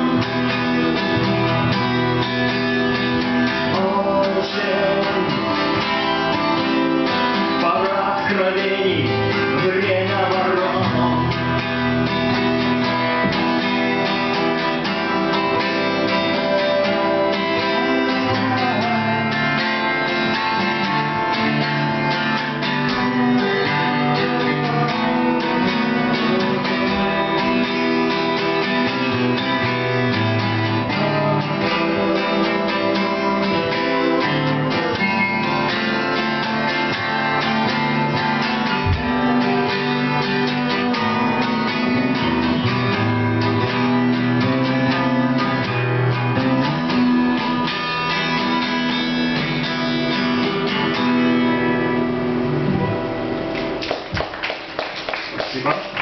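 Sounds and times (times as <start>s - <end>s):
acoustic guitars strumming chords: 0.0s - 56.0s.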